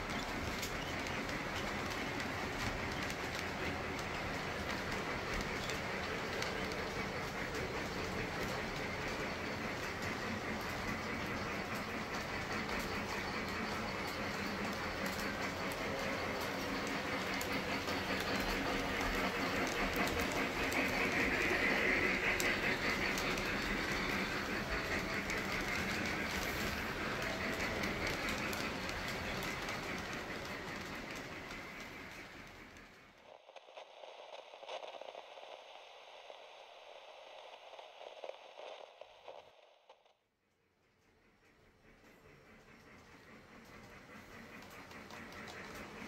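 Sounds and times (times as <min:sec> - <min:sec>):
model train wheels rumbling: 0:00.0 - 0:39.9, 0:40.6 - 0:46.0.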